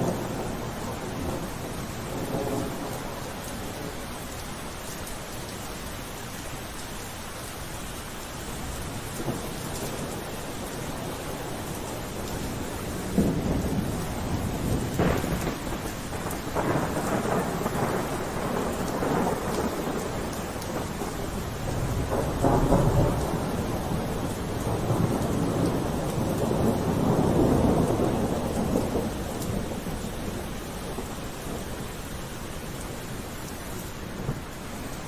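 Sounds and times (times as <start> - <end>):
thunder rumbling: 0.0 - 4.2, 9.2 - 35.0
steady rain: 0.0 - 35.0.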